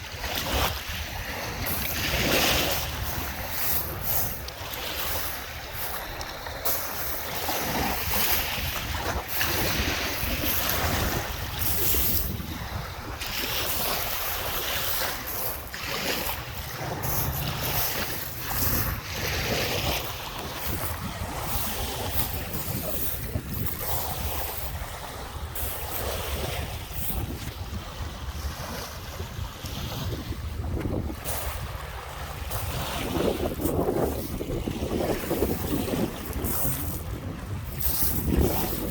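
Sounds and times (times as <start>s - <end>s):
waves washing onto shore: 0.0s - 38.9s
wind buffeting microphone: 0.0s - 38.9s.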